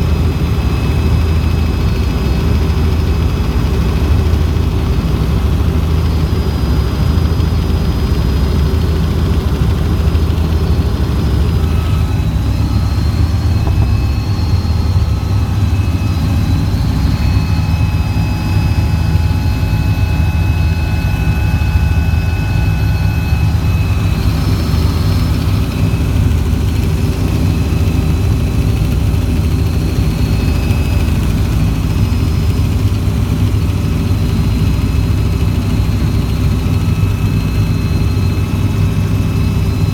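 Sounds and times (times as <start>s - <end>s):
helicopter rotor and engine rumble: 0.0s - 39.9s
faint high whining tones: 5.8s - 39.9s.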